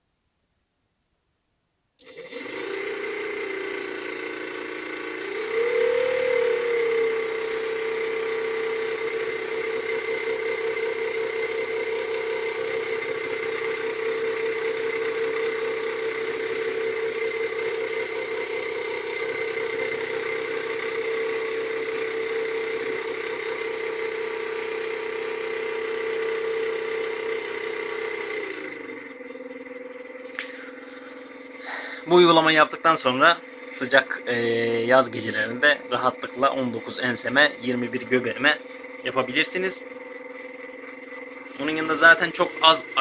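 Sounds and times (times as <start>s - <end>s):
electric motor whine: 2.0s - 43.0s.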